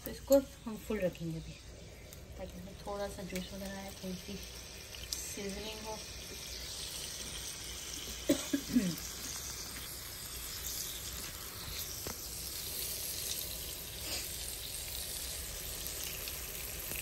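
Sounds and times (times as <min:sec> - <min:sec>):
meat sizzling in a pan: 0:01.2 - 0:17.0.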